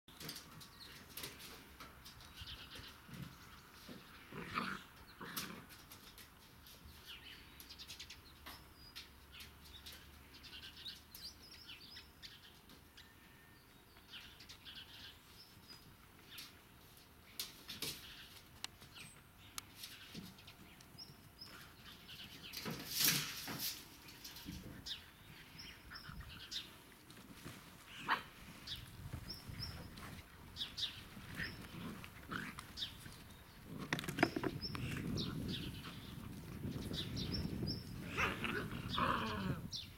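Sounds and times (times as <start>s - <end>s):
small birds chirping: 0.1s - 39.9s.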